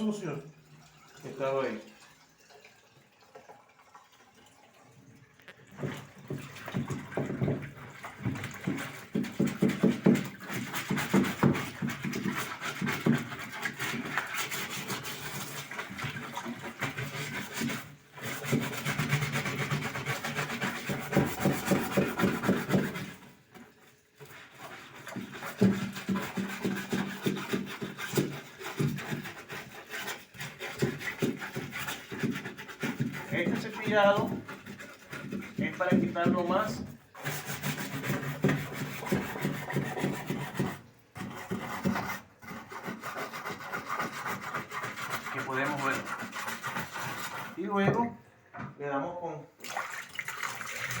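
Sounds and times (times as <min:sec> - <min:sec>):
brush scrubbing plastic tub: 0:05.7 - 0:48.2.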